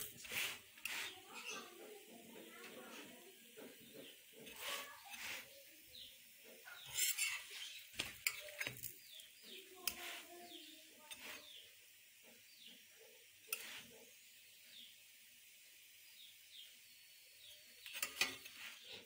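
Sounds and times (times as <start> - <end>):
flatbread sizzling in pan: 0.0 - 19.0.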